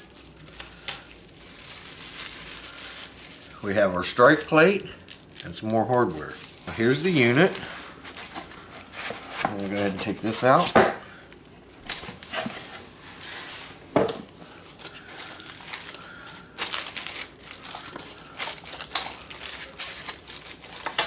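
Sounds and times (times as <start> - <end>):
plastic wrapping crinkling: 0.0 - 13.7, 14.3 - 21.0.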